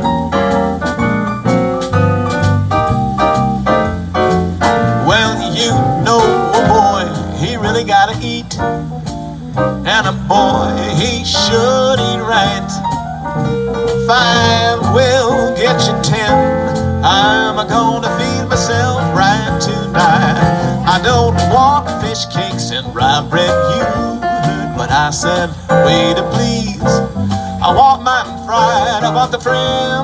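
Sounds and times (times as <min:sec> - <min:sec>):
jazz big band playing swing: 0:00.0 - 0:30.0.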